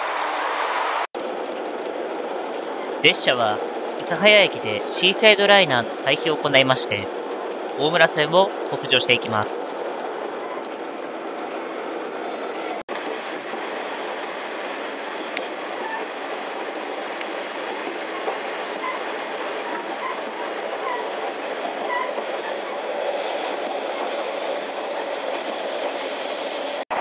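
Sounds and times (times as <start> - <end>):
train wheels rumbling on rails: 1.2 - 27.0.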